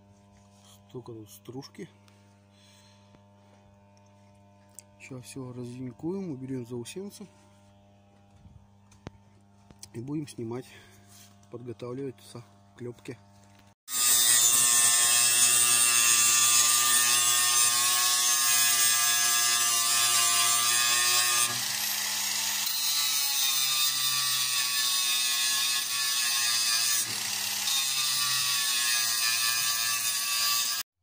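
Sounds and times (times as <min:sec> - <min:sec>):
angle grinder grinding metal: 0:00.5 - 0:30.8.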